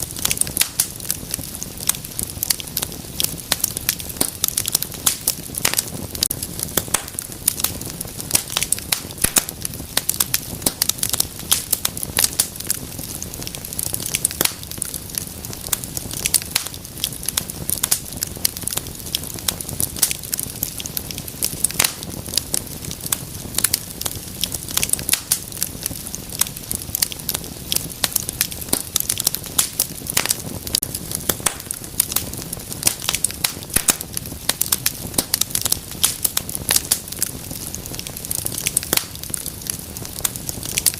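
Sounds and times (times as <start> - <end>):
crackles and pops of fire: 0.0 - 40.9
low rush of flame: 0.0 - 40.9.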